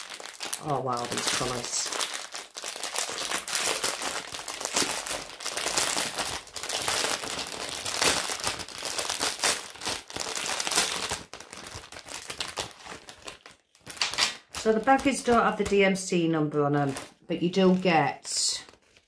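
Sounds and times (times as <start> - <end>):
plastic packaging crinkling: 0.0 - 16.1, 16.7 - 19.0.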